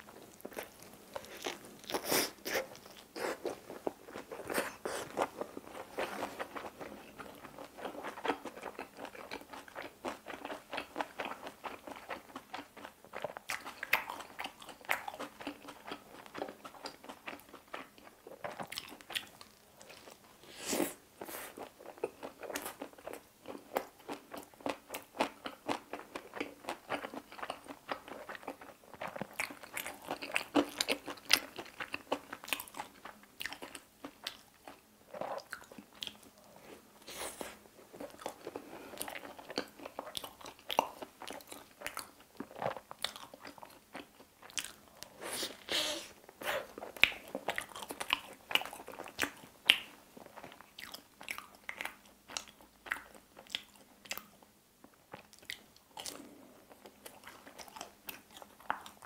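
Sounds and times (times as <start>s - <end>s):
crunchy wet chewing: 0.0s - 20.2s, 20.9s - 45.7s, 46.3s - 59.0s.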